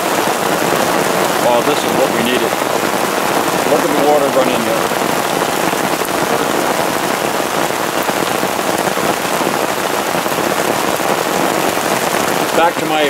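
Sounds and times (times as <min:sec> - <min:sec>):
heavy rain on plastic tarp: 0:00.0 - 0:13.0.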